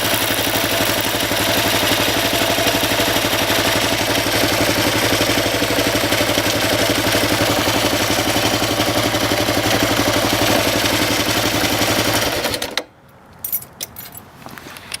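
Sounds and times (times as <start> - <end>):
motorcycle engine running: 0.0 - 12.6
drive chain noise: 0.0 - 12.8.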